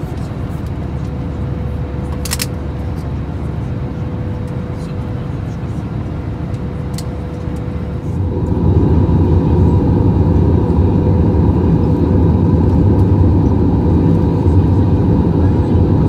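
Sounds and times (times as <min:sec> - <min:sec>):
engine and airflow rush: 0:00.0 - 0:16.0.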